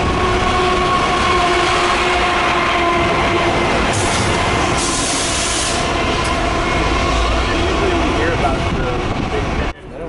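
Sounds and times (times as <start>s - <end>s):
freight train passing: 0.0s - 10.0s.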